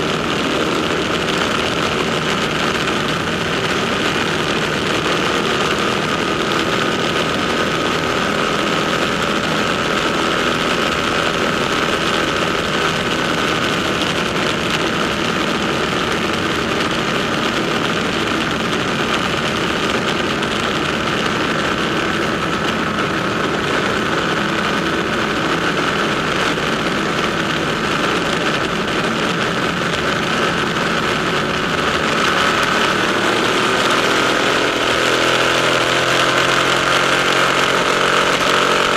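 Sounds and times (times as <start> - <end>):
motorcycle engines echoing in tunnel: 0.0 - 38.9.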